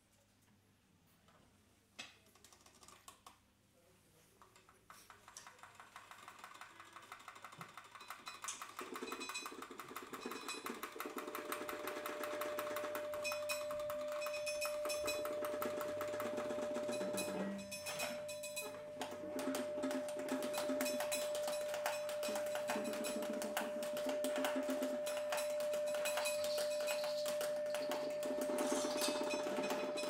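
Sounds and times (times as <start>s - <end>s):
scattered percussive clicks: 2.3s - 3.4s, 4.5s - 30.0s
dense clatter of percussive ticks: 5.1s - 30.0s.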